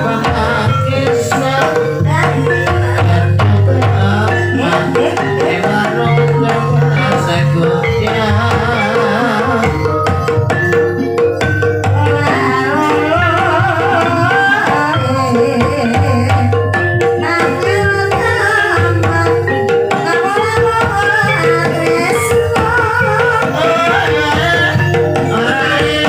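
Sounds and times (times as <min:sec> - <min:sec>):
hand drums: 0:00.0 - 0:26.0
woman singing: 0:00.0 - 0:26.0.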